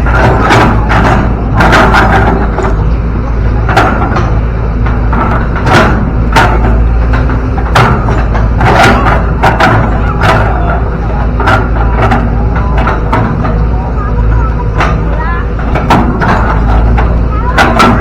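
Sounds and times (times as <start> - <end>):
excavator diesel engine running: 0.0 - 18.0
sharp metal knocks and clanks: 0.0 - 18.0.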